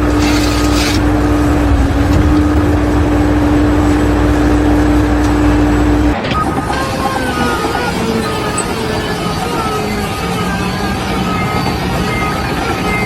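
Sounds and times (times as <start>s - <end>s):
machine engine hum: 0.0s - 13.0s
noisy rumble: 0.0s - 13.0s.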